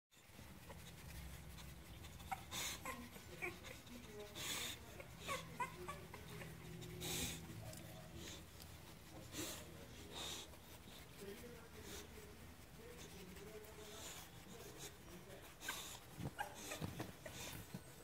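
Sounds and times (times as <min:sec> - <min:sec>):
puppies whimpering: 0:00.2 - 0:11.1, 0:13.0 - 0:18.0.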